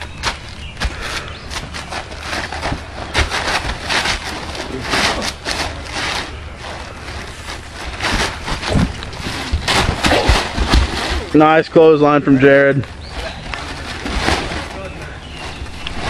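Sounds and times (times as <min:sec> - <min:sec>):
plastic tarp rustling: 0:00.0 - 0:16.0.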